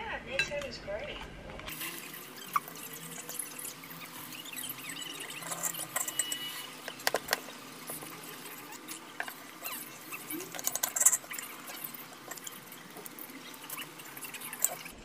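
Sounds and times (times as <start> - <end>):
faint clicks and scratchy ticks: 1.7 - 15.0.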